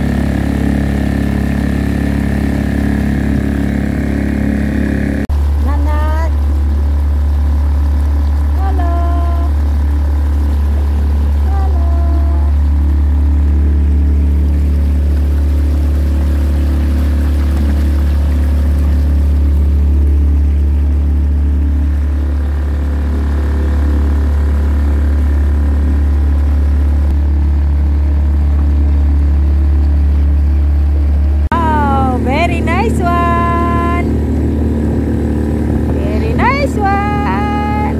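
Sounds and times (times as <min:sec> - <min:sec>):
motorboat engine droning: 0:00.0 - 0:37.9.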